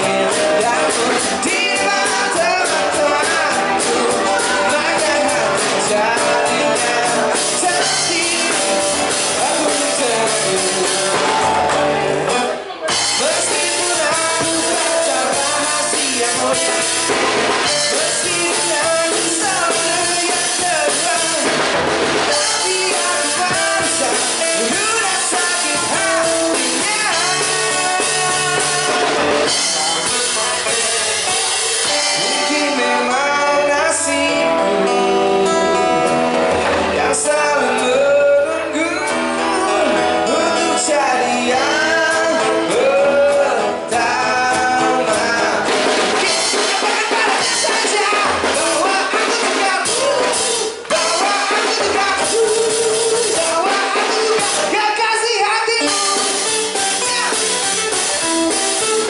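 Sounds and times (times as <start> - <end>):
acoustic guitar: 0.0 - 59.0
drum kit with snare and cymbals: 0.0 - 59.0
electric bass: 0.0 - 59.0
man singing into a microphone: 0.0 - 59.0.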